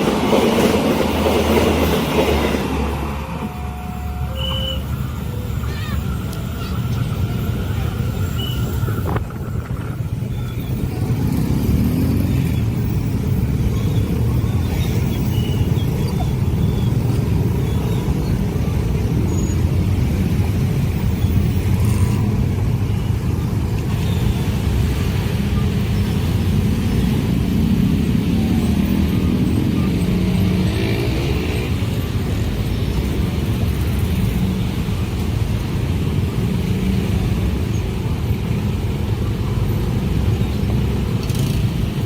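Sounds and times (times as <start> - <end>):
train passing rumble: 0.0 - 42.0.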